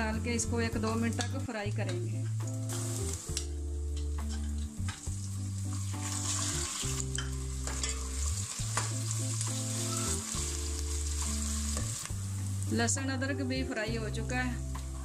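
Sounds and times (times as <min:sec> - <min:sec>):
background music with low bass: 0:00.0 - 0:15.0
onions sizzling in hot oil: 0:00.8 - 0:15.0.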